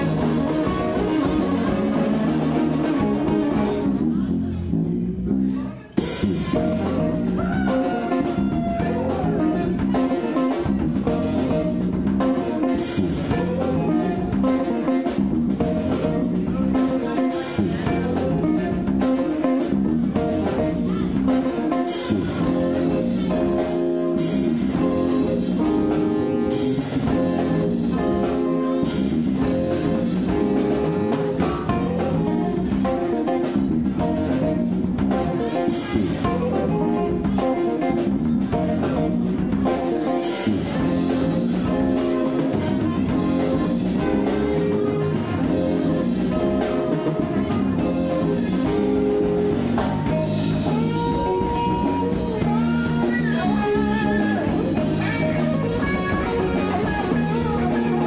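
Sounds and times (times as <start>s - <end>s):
bass: 0.0s - 58.0s
drum kit: 0.0s - 58.0s
funk guitar: 0.0s - 58.0s.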